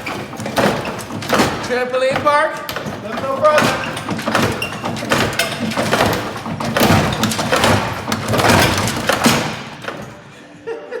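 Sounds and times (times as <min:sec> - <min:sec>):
heavy thumps with crunching: 0:00.0 - 0:10.6.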